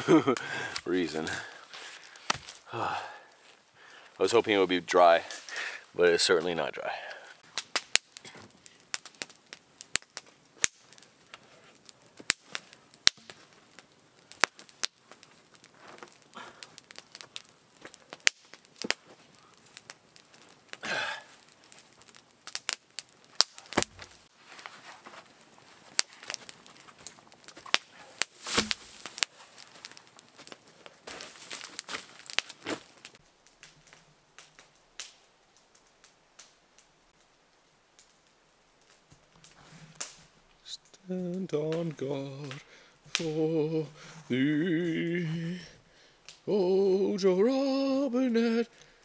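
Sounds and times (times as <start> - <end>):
dry leaves and wood rustling: 0.0 - 45.6
campfire crackling: 0.0 - 49.0.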